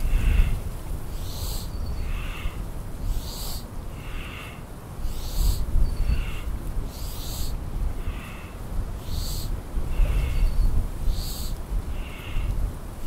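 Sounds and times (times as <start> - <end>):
person breathing rhythmically: 0.0 - 0.7, 1.4 - 12.8.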